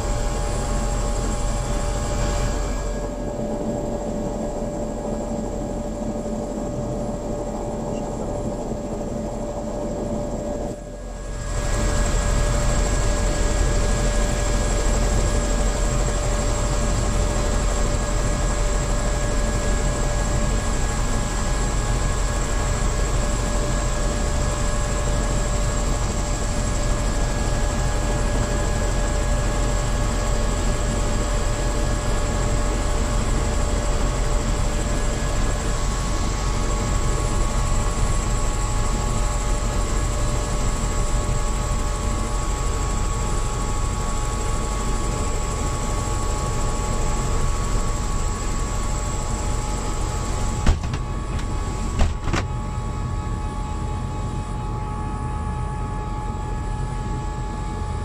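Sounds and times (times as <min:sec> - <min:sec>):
dense rotor rumble: 0:00.0 - 0:58.0
helicopter turbine whine: 0:00.0 - 0:58.0.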